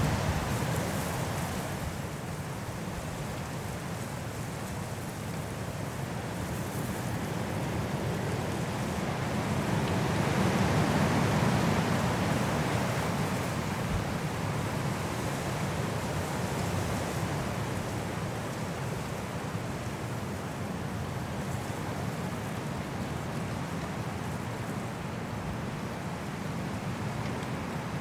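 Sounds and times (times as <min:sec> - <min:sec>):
strong wind through trees: 0:00.0 - 0:28.0.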